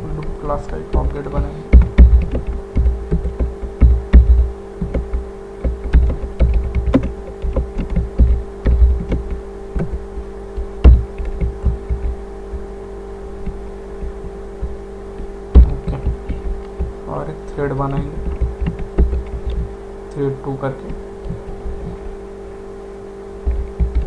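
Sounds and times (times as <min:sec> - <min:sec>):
steady electrical hum: 0:00.0 - 0:24.0
keyboard typing: 0:00.2 - 0:12.7, 0:13.4 - 0:19.7, 0:20.7 - 0:22.2, 0:23.4 - 0:24.0.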